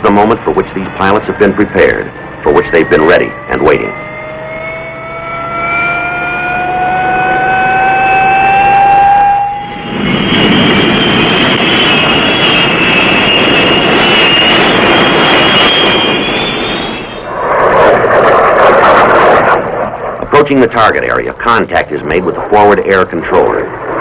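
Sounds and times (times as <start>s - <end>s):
jet engine whine rising: 0.0s - 24.0s
loud jet noise rush: 0.0s - 24.0s.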